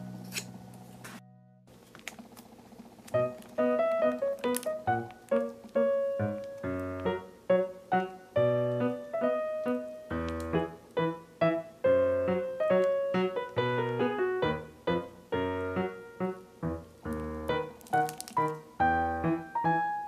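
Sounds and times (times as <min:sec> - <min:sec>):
gentle piano music: 0:03.0 - 0:20.0.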